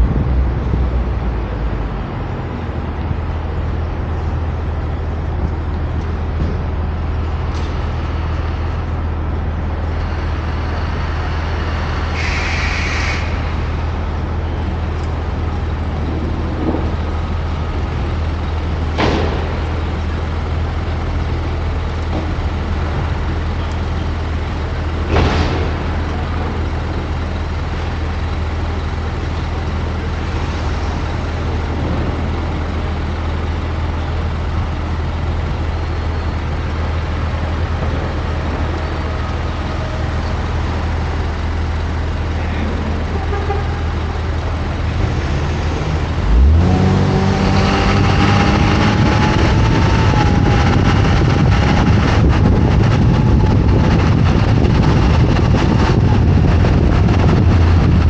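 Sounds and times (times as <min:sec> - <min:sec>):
low road rumble: 0:00.0 - 0:58.0.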